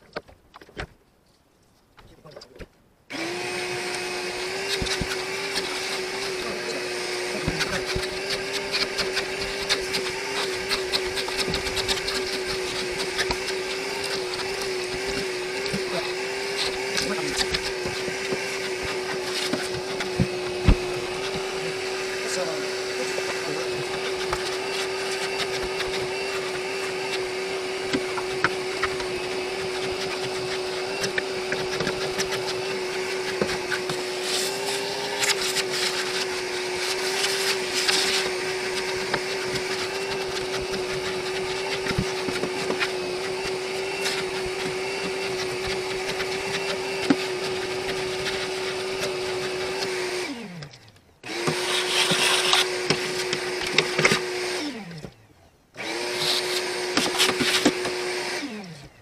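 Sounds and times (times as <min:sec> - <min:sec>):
vacuum motor winding down: 0:03.1 - 0:55.2, 0:55.8 - 0:59.0
shop vacuum running: 0:03.1 - 0:59.0.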